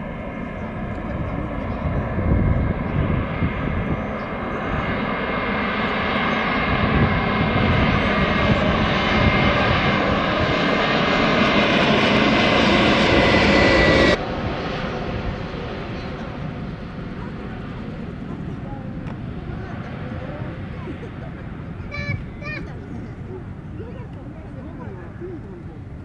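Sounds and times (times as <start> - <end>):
jet airliner roar with whine: 0.0 - 26.0.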